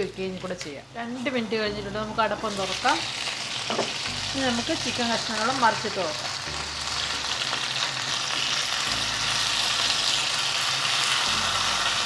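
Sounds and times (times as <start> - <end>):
chicken sizzling in hot oil: 2.3 - 12.0.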